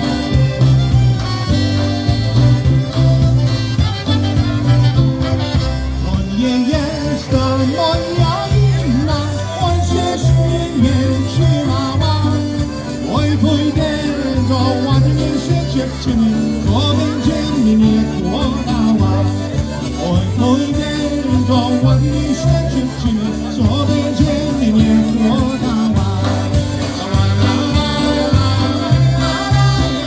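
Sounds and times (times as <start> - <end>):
polka band playing: 0.0 - 30.0
steady bass beat: 0.0 - 30.0.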